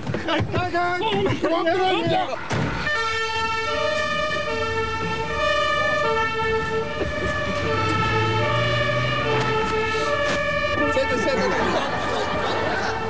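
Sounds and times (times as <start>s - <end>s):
fire engine two-tone siren: 2.1s - 13.0s.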